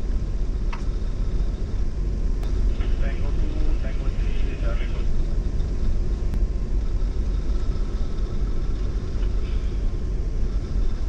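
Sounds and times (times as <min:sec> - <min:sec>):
ship engine rumble: 0:00.0 - 0:11.0.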